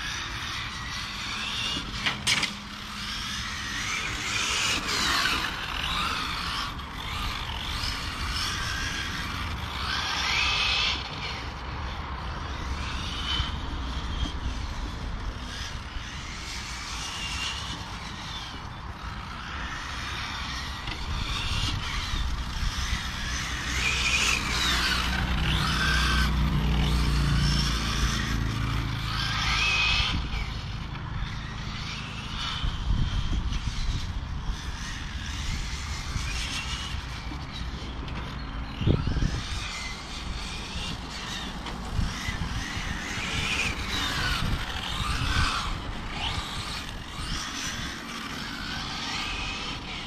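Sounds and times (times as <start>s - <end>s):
electric rc car motors whining: 0.0s - 50.0s.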